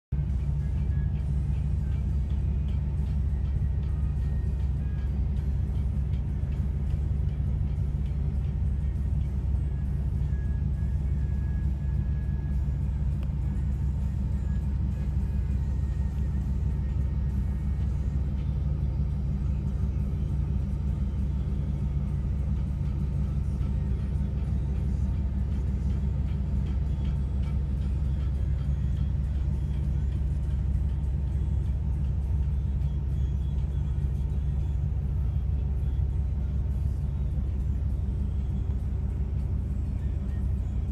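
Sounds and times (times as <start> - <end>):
diesel engine low rumble: 0.0 - 40.9.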